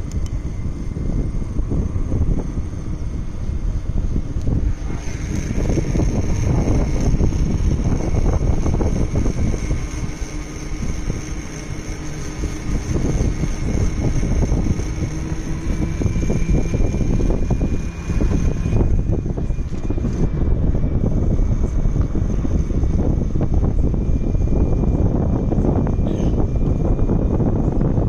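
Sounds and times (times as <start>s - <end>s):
electric scooter whine: 0.0s - 28.0s
wind rumble on microphone: 0.0s - 28.0s.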